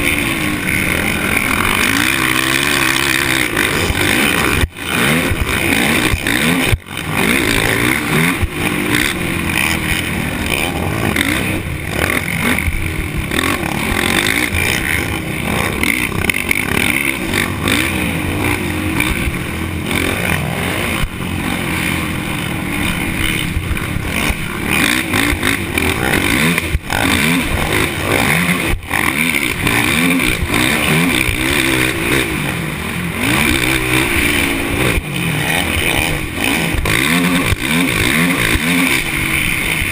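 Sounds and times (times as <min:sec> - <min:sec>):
race engines revving: 0:00.0 - 0:39.9.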